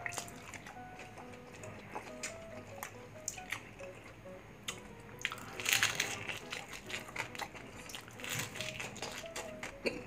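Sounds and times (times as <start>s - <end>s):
crispy pork skin crunching: 0.0s - 3.9s, 4.7s - 10.0s.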